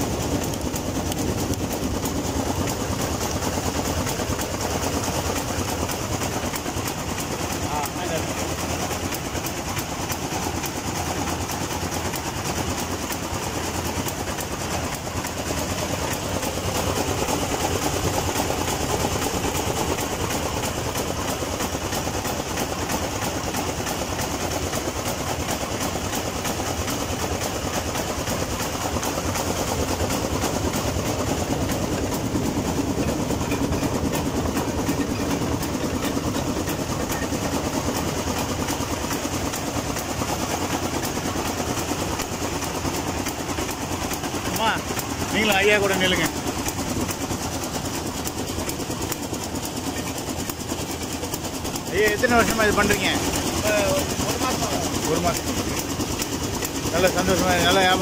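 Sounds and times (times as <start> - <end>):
diesel engine running: 0.0 - 58.0
sugarcane juicer clattering: 0.0 - 58.0.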